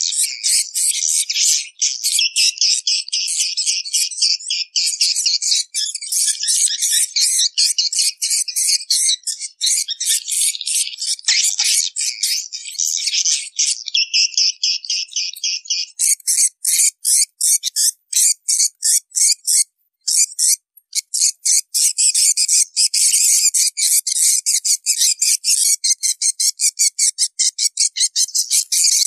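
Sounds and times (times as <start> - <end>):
high buzzy bird chirps: 0.0 - 29.0.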